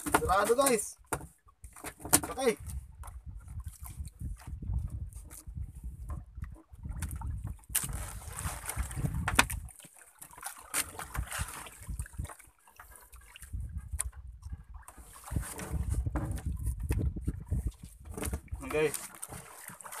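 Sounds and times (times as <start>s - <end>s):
water sloshing and trickling: 0.0s - 20.0s.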